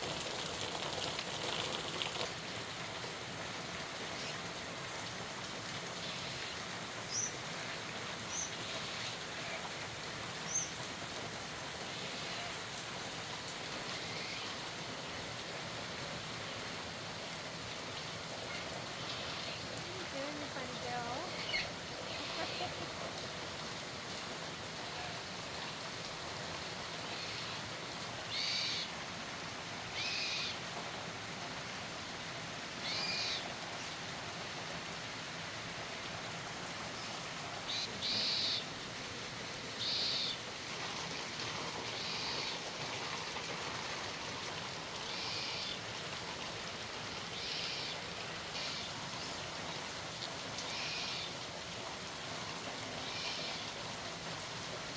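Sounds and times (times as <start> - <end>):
background hiss: 0.0 - 54.9.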